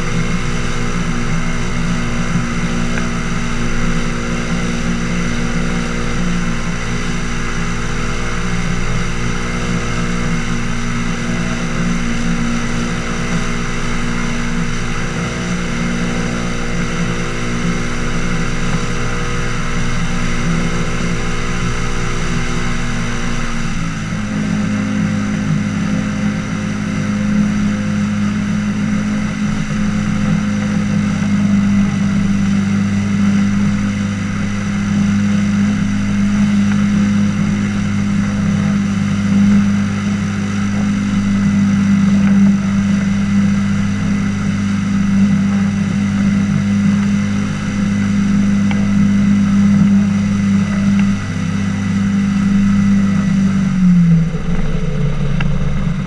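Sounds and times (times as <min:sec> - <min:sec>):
boat engine and propeller running: 0:00.0 - 0:56.0.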